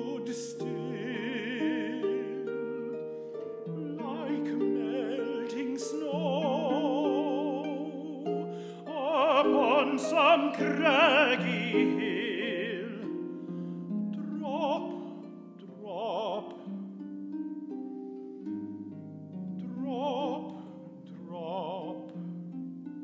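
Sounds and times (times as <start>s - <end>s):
tenor singing with vibrato: 0.0s - 17.7s, 18.3s - 22.6s
harp accompaniment: 0.0s - 23.0s.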